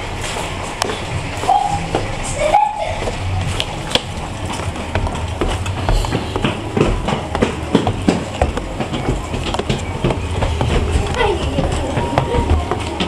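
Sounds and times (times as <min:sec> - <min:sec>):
footsteps climbing stairs: 0:00.0 - 0:13.0
steady low rumble: 0:00.0 - 0:13.0.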